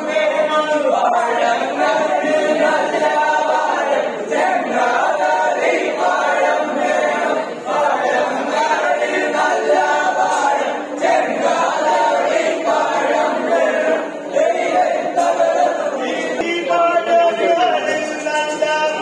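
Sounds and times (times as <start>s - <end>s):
men singing unaccompanied: 0.0s - 19.0s.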